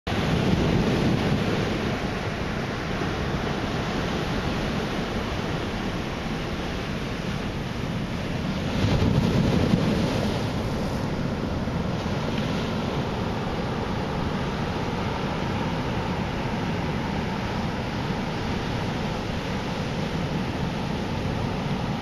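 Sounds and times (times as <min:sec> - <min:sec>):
ocean waves breaking: 0:00.1 - 0:22.0.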